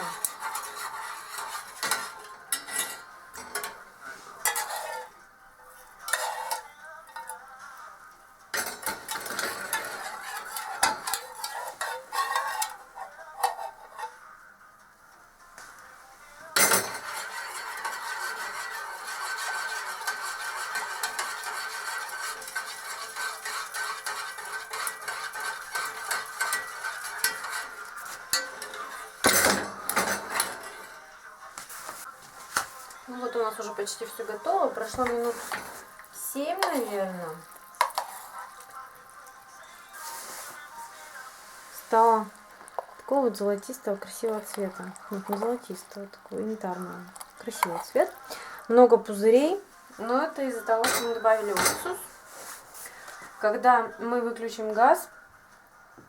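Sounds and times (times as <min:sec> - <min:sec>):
spoon scraping a saucepan: 0:00.0 - 0:07.5, 0:08.6 - 0:14.2, 0:16.5 - 0:31.1, 0:32.8 - 0:49.2, 0:50.2 - 0:53.0.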